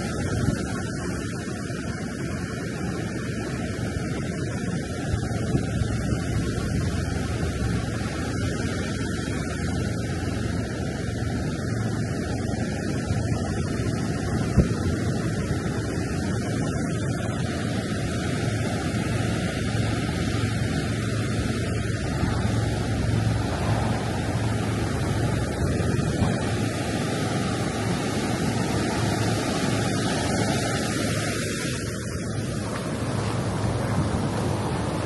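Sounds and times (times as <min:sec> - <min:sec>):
surf breaking on sand: 0:00.0 - 0:35.0
wind on microphone: 0:00.0 - 0:35.0.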